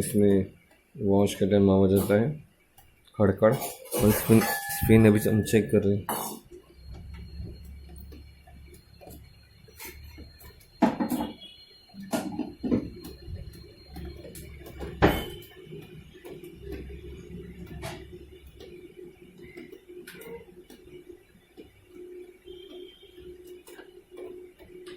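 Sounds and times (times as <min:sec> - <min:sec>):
washing machine rumbling: 0:03.4 - 0:24.9.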